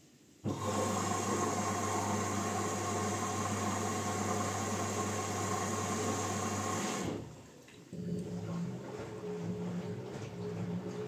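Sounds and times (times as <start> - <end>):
washing machine humming: 0.4 - 11.0.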